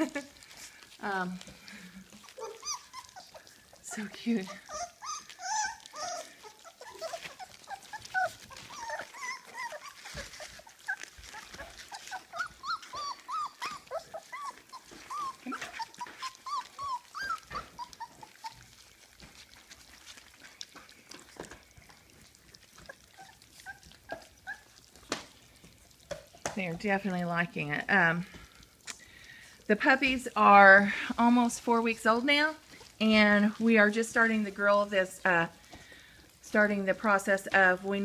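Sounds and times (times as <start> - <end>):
soft clicks of eating: 0.0 - 30.3, 35.2 - 36.4
puppies whimpering and squeaking: 0.0 - 38.0.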